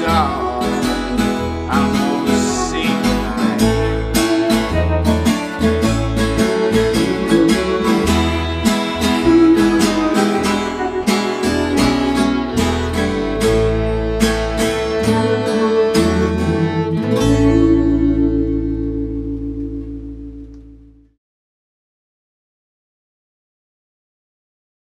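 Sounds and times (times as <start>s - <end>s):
acoustic string band playing: 0.0s - 20.6s
strummed acoustic guitar: 0.0s - 20.8s
bass line: 0.0s - 21.2s.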